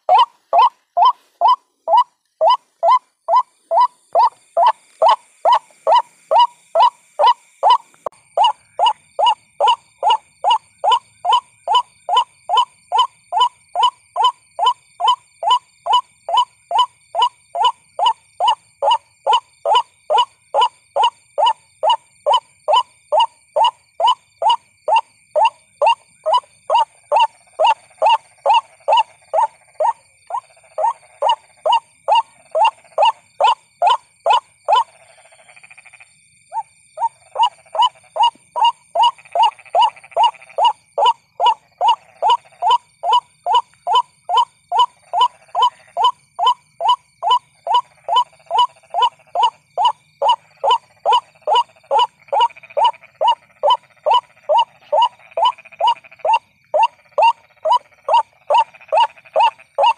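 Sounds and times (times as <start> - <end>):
waterhen calls: 0.0 - 35.0, 36.5 - 59.9.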